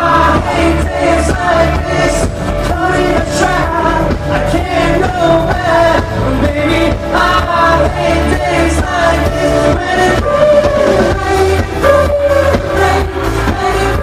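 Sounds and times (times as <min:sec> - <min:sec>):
drums: 0:00.0 - 0:14.0
live rock band playing: 0:00.0 - 0:14.0
person singing: 0:00.0 - 0:14.0.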